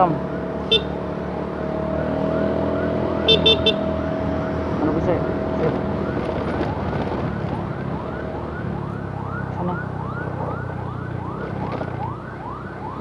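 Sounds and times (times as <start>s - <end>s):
motorcycle engine: 0.0s - 13.0s
road noise: 0.0s - 13.0s
ambulance siren wailing: 0.6s - 13.0s.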